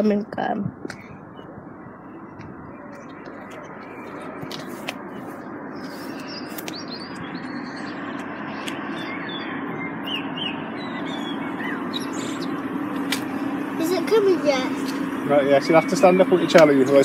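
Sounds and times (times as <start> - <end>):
small birds chirping: 0.0 - 17.0
steady background rumble: 0.0 - 17.0.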